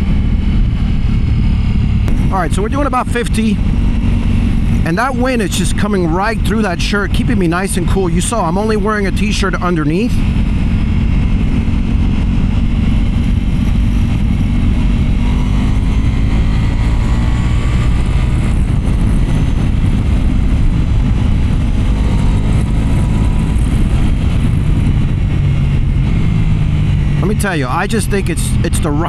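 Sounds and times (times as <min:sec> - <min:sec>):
motorcycle engine cruising: 0:00.0 - 0:29.0
wind noise: 0:00.0 - 0:29.0.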